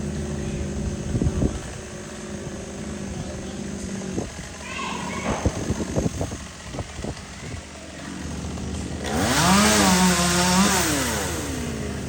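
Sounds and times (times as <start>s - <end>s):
chainsaw idling and revving: 0.0s - 12.0s.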